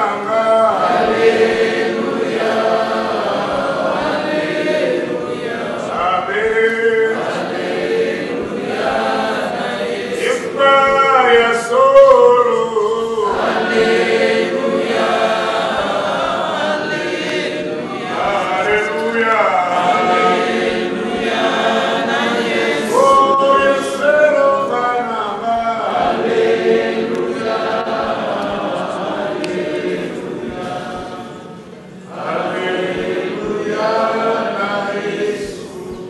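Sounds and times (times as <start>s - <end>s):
congregation singing a hymn: 0.0s - 36.0s.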